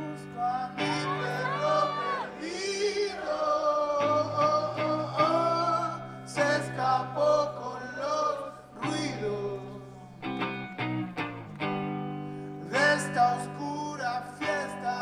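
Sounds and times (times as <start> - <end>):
man singing: 0.0 - 10.4, 12.6 - 15.0
electric guitar: 0.0 - 15.0.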